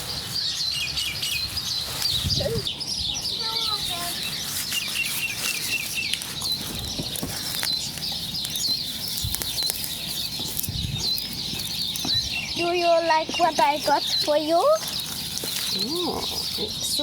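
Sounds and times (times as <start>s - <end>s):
young chickens peeping: 0.0s - 17.0s.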